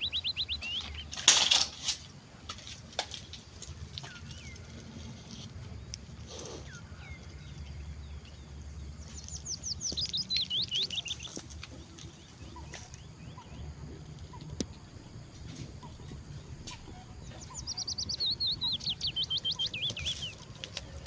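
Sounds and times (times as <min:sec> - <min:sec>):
small birds chirping: 0:00.0 - 0:01.5, 0:02.6 - 0:21.0
low outdoor rumble: 0:00.0 - 0:21.0.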